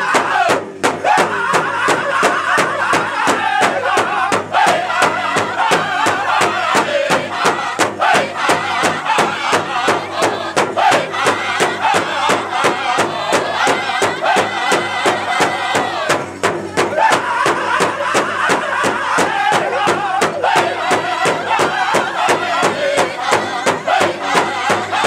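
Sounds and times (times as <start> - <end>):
group singing in high voices: 0.0 - 25.0
large bass drum beating: 0.0 - 25.0.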